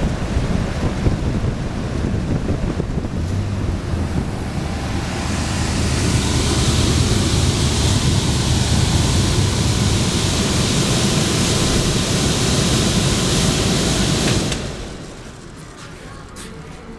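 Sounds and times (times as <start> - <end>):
air conditioner fans blowing: 0.0 - 16.9.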